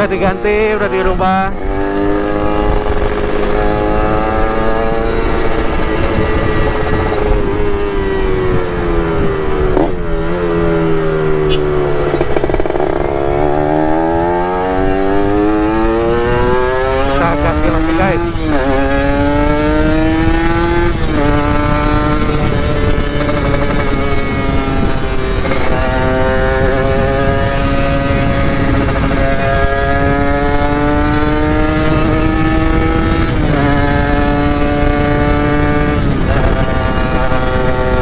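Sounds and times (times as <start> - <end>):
motorcycle engine accelerating: 0.0 - 38.0
wind on microphone: 0.0 - 38.0.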